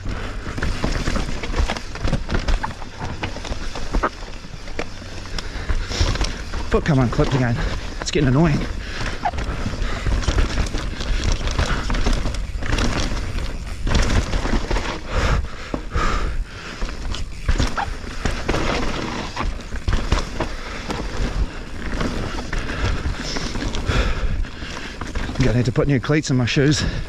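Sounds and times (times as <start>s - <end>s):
bike knocks and rattles: 0.0s - 25.8s
bike tyres rolling over dirt: 0.0s - 27.0s.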